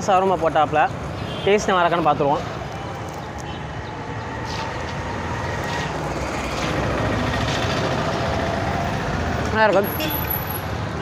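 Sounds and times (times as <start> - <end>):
vehicle engine rumble: 2.0 - 11.0.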